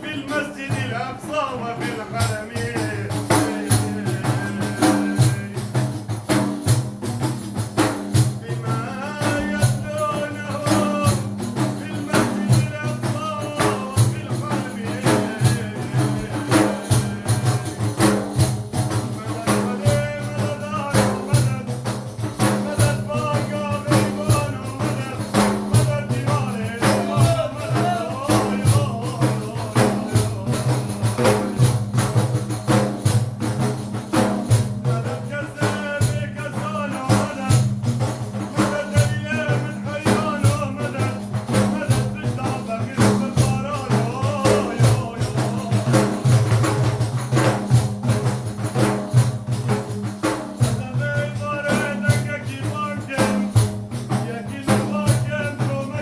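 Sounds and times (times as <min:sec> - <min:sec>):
man singing melismatic line: 0:00.0 - 0:05.9, 0:08.4 - 0:18.2, 0:19.1 - 0:31.5, 0:34.8 - 0:46.4, 0:50.6 - 0:56.0
frame drums with jingles: 0:00.0 - 0:56.0.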